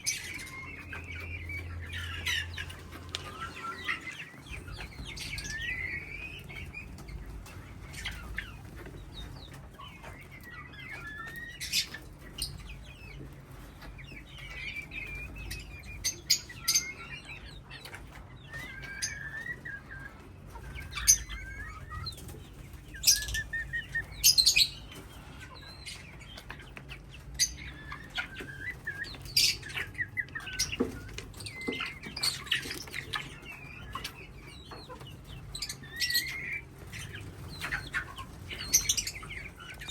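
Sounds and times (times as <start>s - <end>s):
parrots chirping: 0.0s - 13.2s, 14.1s - 39.9s.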